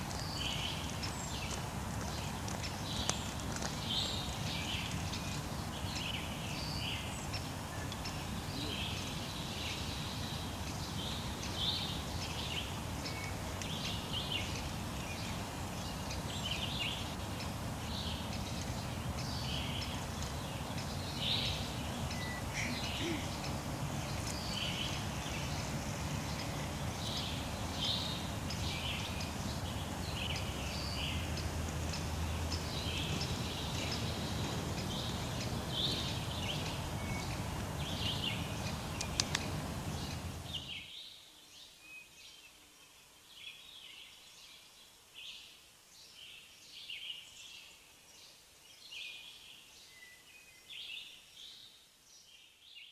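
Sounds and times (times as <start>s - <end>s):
small birds singing: 0.0s - 52.9s.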